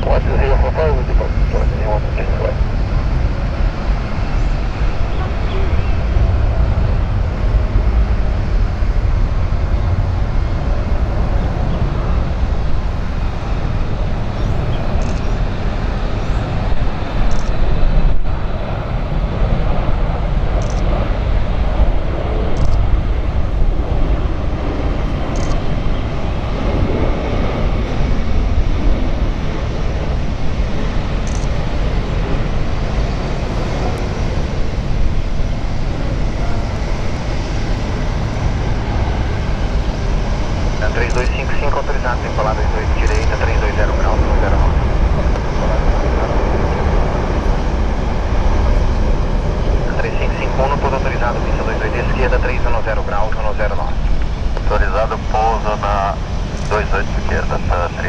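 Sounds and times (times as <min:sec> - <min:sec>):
jet airliner engine rumble: 0:00.0 - 0:58.0.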